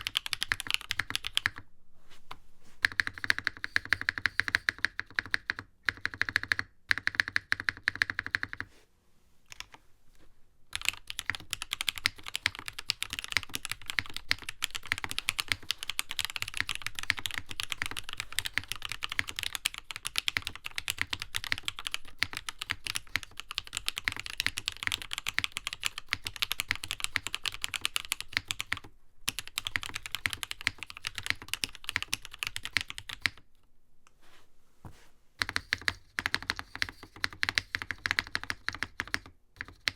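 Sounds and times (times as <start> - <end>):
typing on mechanical keyboard: 0.0 - 1.6, 2.8 - 8.7, 10.7 - 33.5, 35.4 - 39.9.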